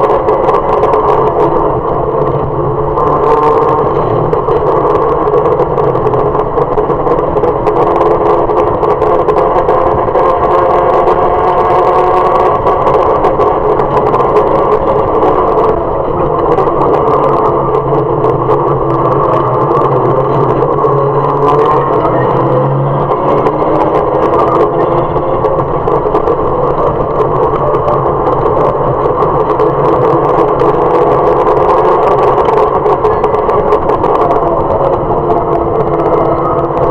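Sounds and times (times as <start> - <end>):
race car engine: 0.0 - 36.9
road and wind noise: 0.0 - 36.9.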